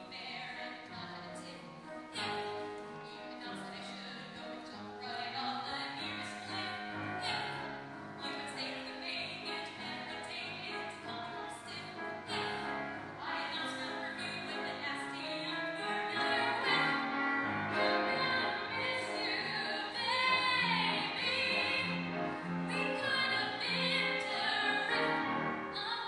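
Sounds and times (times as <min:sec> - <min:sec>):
woman singing show tune: 0:00.0 - 0:17.1, 0:17.7 - 0:26.0
grand piano accompaniment: 0:00.0 - 0:26.0.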